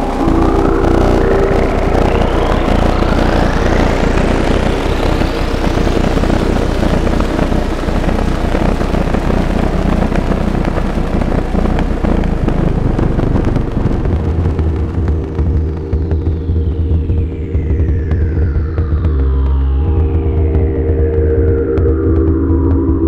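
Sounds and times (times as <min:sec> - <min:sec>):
rising synth sweeps: 0:00.0 - 0:23.0
synthesizer drone: 0:00.0 - 0:23.0.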